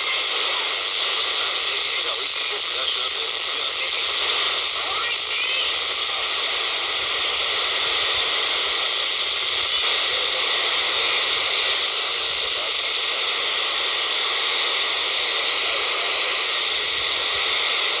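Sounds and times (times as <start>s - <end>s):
radio static hissing: 0.0s - 18.0s.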